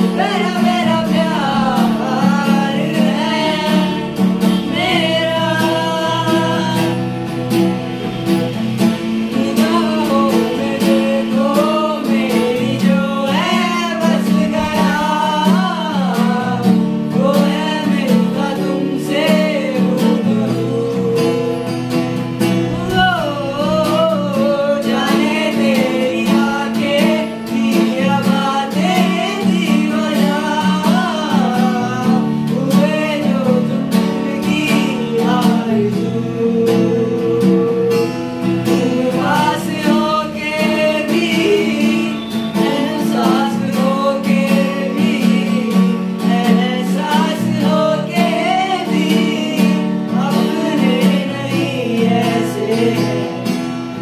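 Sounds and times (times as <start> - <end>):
man singing: 0.0 - 7.0, 9.0 - 53.6
acoustic guitar strumming: 0.0 - 54.0.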